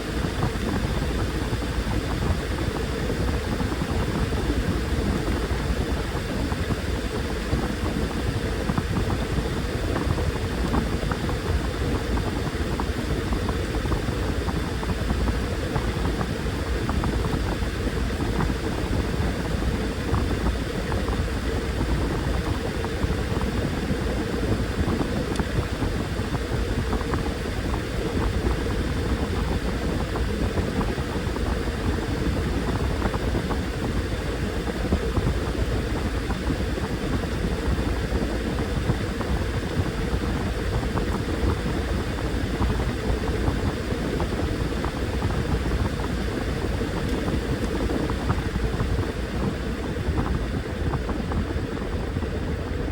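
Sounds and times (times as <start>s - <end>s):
washing machine churning: 0.0s - 52.9s.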